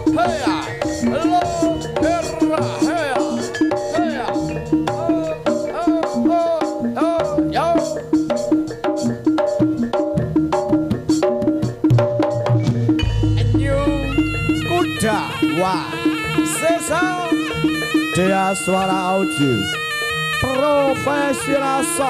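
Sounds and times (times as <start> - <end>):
gliding melody line: 0.0 - 22.0
pitched percussion pattern: 0.0 - 22.0
steady drum beats: 0.0 - 22.0.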